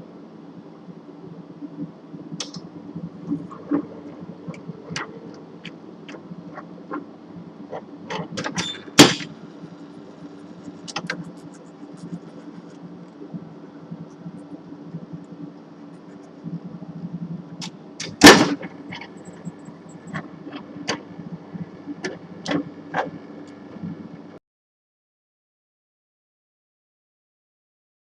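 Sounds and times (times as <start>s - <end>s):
steady machine hum: 0.0s - 24.4s.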